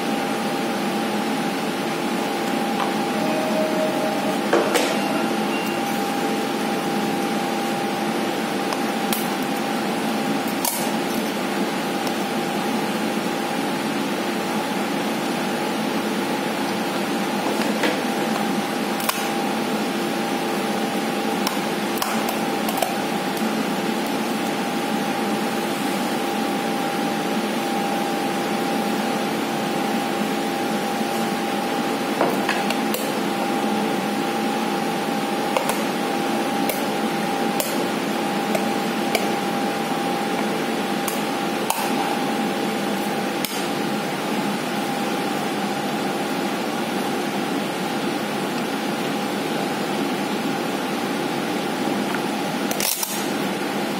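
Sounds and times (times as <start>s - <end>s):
steady machine hum: 0.0s - 53.9s.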